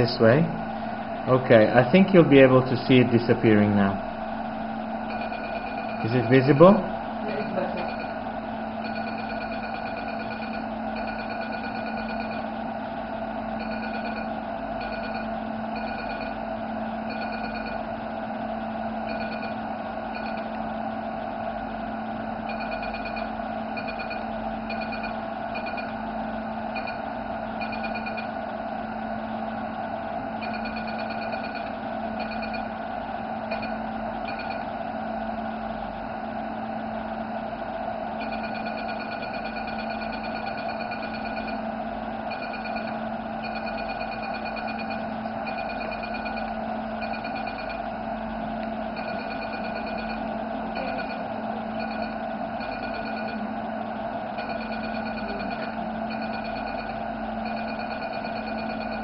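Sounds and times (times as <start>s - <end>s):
rapid high-pitched laser beeping: 0.0s - 35.6s, 38.1s - 59.0s
steady low hum: 0.0s - 59.0s.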